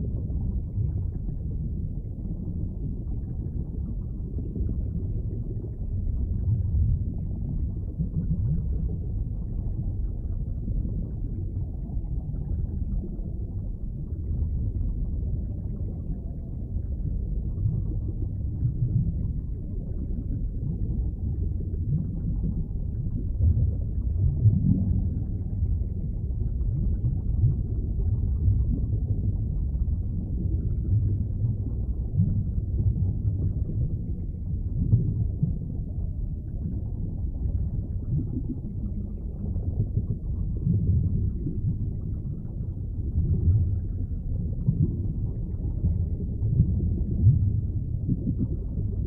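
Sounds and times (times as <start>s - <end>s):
underwater rumble of moving water: 0.0s - 49.0s.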